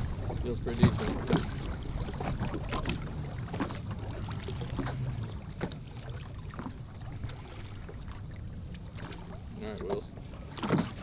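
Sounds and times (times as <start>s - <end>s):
water splashing against a boat: 0.0s - 11.0s.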